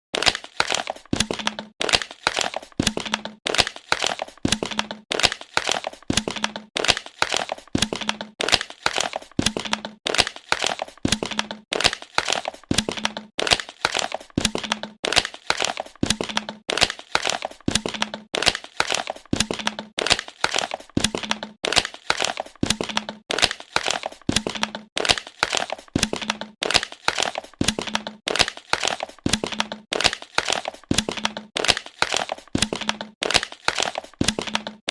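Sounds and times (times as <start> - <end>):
plastic bottle crackling: 0.2 - 34.9.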